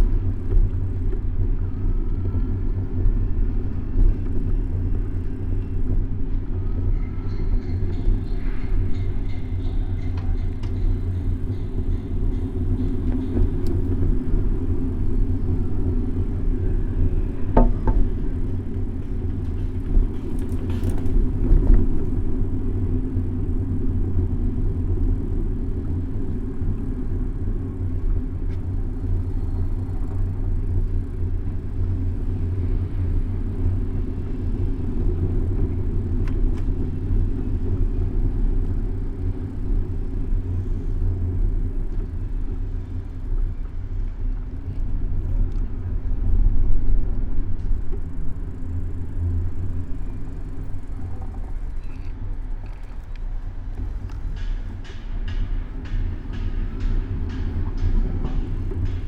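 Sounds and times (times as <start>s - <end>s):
bicycle road noise rumble: 0.0s - 59.0s.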